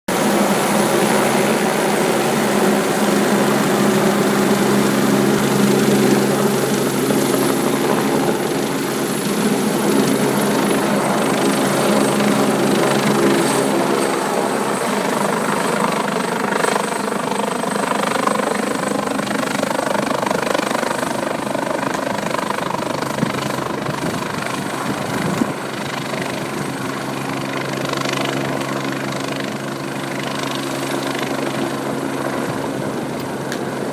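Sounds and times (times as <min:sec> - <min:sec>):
helicopter rotor and engine drone: 0:00.1 - 0:33.9.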